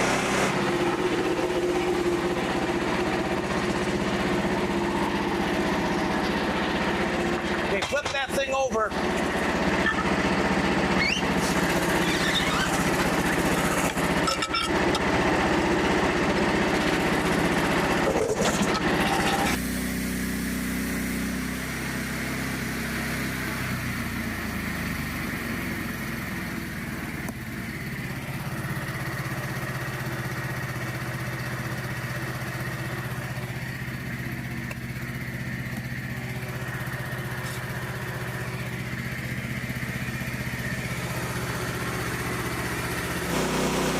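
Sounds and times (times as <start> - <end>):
small gasoline engine running: 0.0 - 43.9.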